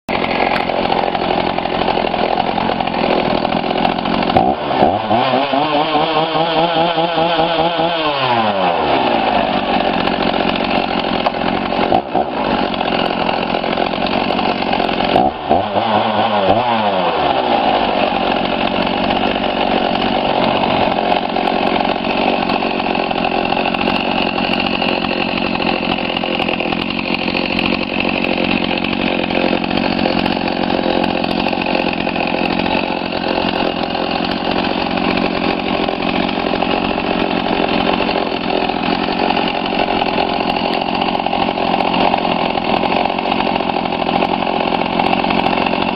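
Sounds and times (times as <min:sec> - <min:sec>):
chainsaw running at high revs: 0:00.1 - 0:45.9.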